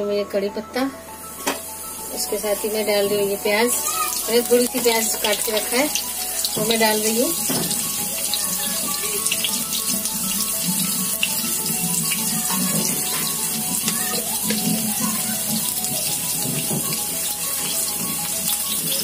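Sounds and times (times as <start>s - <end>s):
background music: 0.0s - 19.0s
onion sizzling in hot oil: 1.2s - 19.0s.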